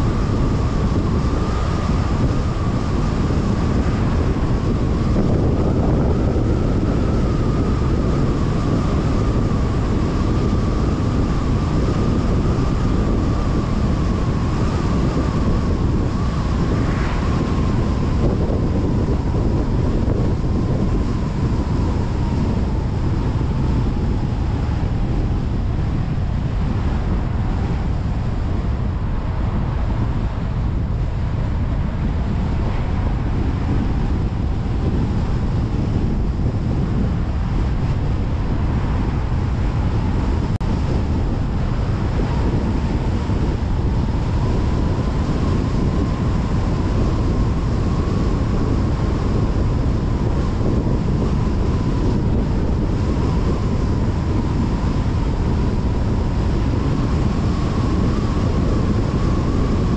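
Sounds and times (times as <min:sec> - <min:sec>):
faint whine: 0:00.0 - 0:59.9
wind noise: 0:00.0 - 0:59.9.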